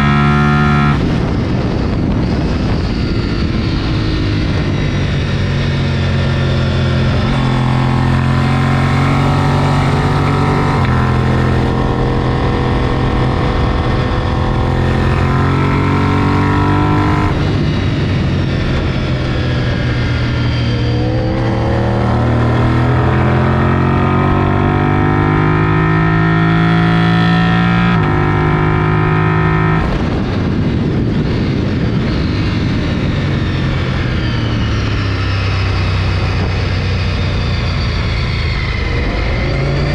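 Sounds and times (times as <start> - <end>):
motorcycle engine accelerating: 0.0 - 39.9
wind rush: 0.0 - 39.9.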